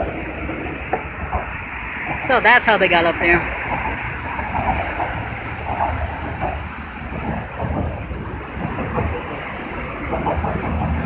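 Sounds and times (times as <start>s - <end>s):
traffic rumble: 0.0s - 11.0s
wind on microphone: 0.0s - 11.0s.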